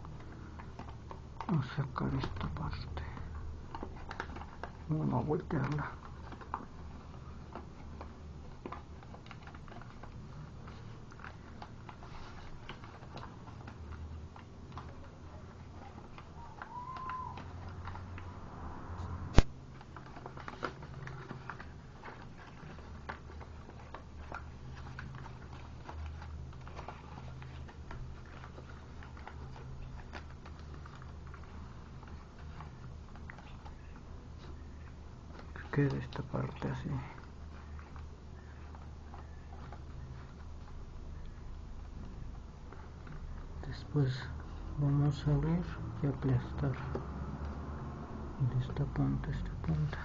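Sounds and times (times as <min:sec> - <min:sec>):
paper rustling and crinkling: 0:00.0 - 0:50.0.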